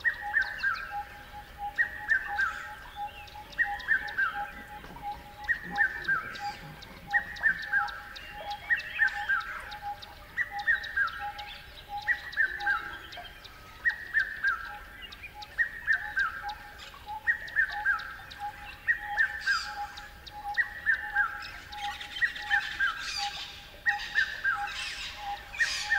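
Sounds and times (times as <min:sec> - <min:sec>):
harsh bird calls: 0:00.0 - 0:25.9.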